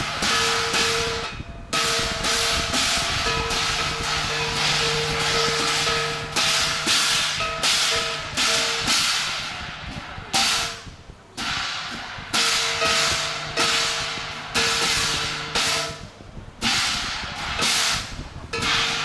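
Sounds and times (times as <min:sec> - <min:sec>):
brass hand cymbals clashing: 0:00.0 - 0:19.0.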